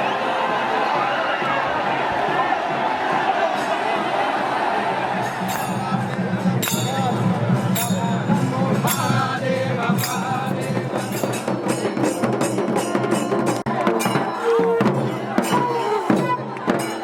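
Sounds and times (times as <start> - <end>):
quick drum strokes: 1.4 - 17.0.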